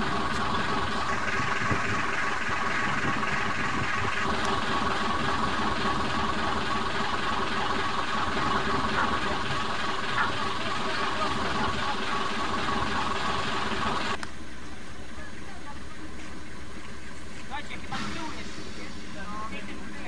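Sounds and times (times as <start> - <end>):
locomotive engine humming: 0.0 - 20.0.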